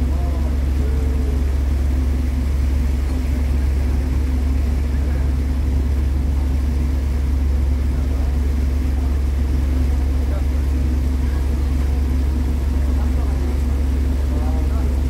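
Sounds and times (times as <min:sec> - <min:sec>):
boat engine drone: 0:00.0 - 0:15.0.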